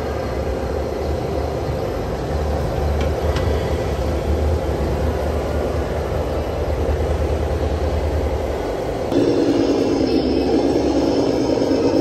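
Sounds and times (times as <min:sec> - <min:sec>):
busy hall noise: 0:00.0 - 0:12.0.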